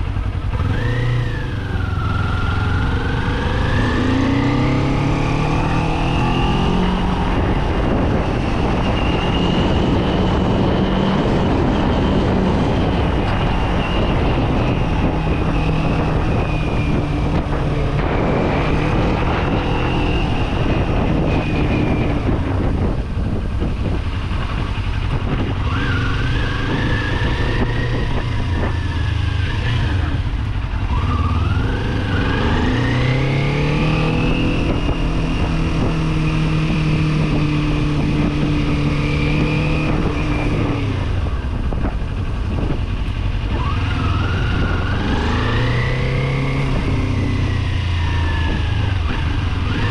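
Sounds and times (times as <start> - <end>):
motorcycle engine running: 0.0 - 49.9
wind rush over microphone: 0.0 - 49.9.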